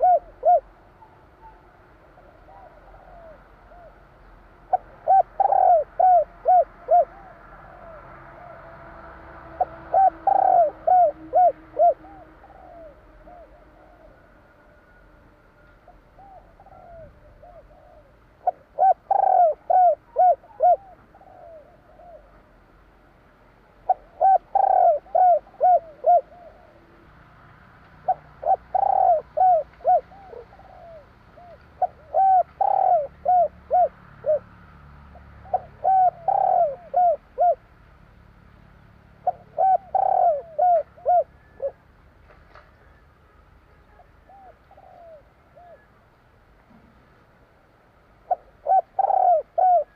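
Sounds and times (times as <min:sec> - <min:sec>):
dove cooing: 0:00.0 - 0:15.0, 0:15.6 - 0:22.5, 0:23.8 - 0:27.1, 0:28.0 - 0:37.7, 0:39.2 - 0:41.9, 0:43.9 - 0:46.0, 0:48.2 - 0:49.9.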